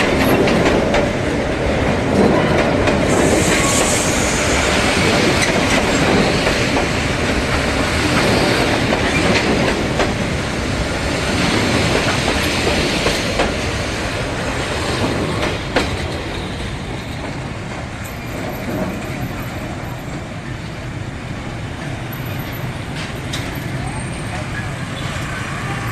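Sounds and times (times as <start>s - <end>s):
train passing with rumble: 0.0s - 25.9s.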